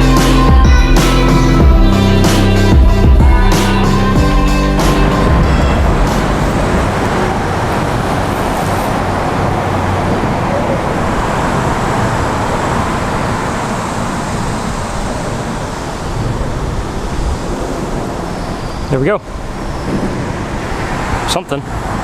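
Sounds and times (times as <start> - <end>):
highway traffic noise: 0.0 - 22.0.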